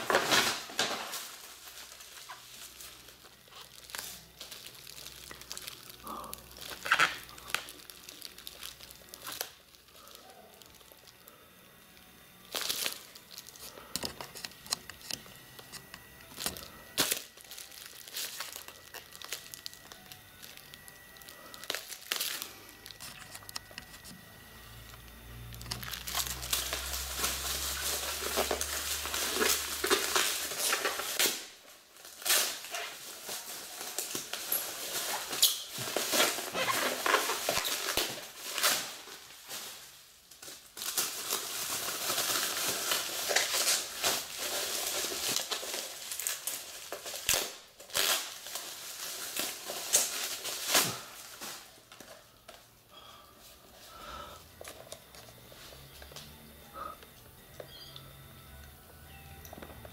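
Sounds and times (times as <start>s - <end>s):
plastic packaging crinkling and tearing: 0.0s - 56.3s.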